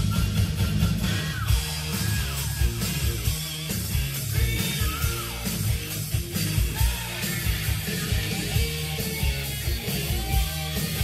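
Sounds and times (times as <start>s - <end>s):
rock music with heavy drums: 0.0s - 11.0s.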